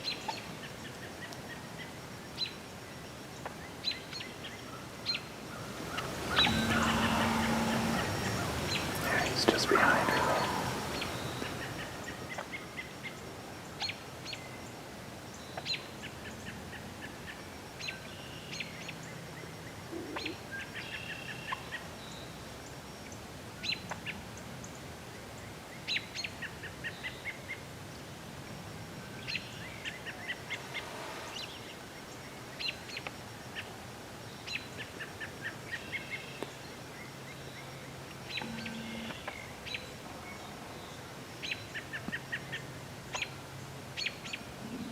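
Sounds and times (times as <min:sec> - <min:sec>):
songbirds singing: 0:00.0 - 0:23.9, 0:29.2 - 0:44.9.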